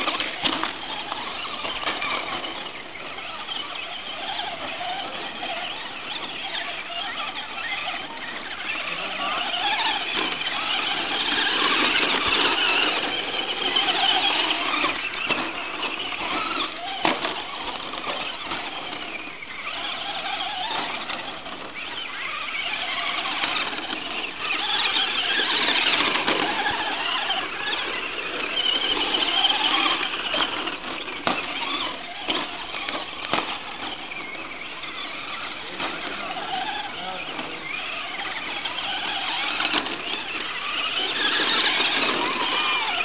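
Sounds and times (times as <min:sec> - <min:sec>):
electric motors whining: 0:00.0 - 0:43.0.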